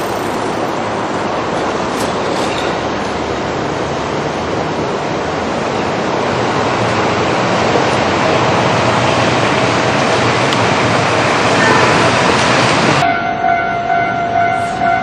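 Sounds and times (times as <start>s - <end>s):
train wheels roaring on rails: 0.0s - 15.0s.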